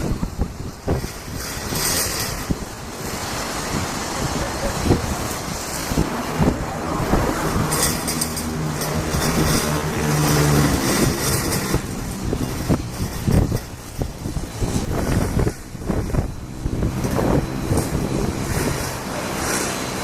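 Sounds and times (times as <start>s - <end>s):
jet engines running: 0.0s - 20.0s
wind buffeting microphone: 0.0s - 20.0s.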